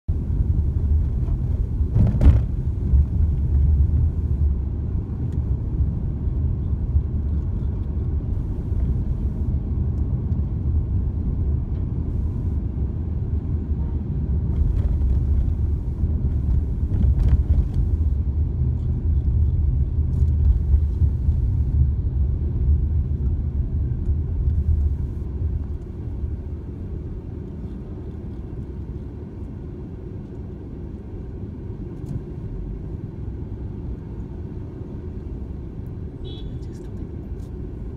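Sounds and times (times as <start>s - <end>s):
car cabin road and engine rumble: 0.1s - 37.9s.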